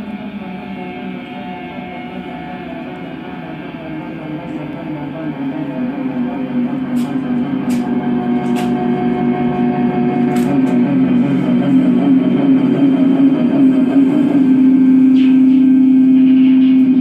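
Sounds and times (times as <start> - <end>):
synthesizer drone with warble: 0.0 - 17.0.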